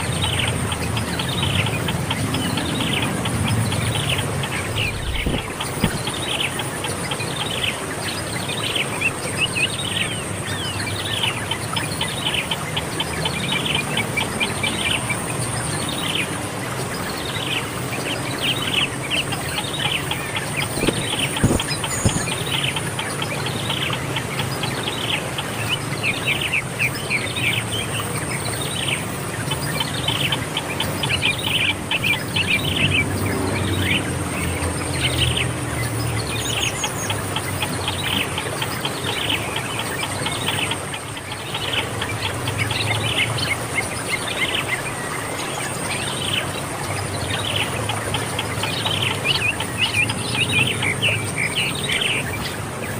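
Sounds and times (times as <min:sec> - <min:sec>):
small bird chirping: 0:00.0 - 0:16.3, 0:17.0 - 0:52.9.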